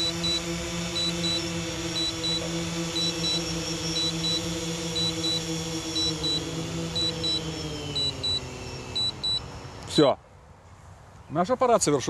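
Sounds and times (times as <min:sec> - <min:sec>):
low-battery alarm beeping: 0:00.0 - 0:09.8
drone propellers humming: 0:00.0 - 0:10.4.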